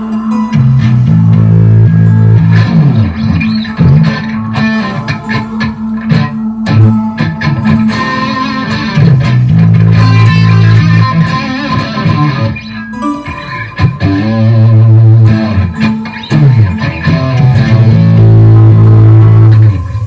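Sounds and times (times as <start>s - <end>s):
electric guitar through effects: 0.0s - 20.0s
electronic backing track: 0.0s - 20.0s
steady low held note: 0.0s - 20.0s.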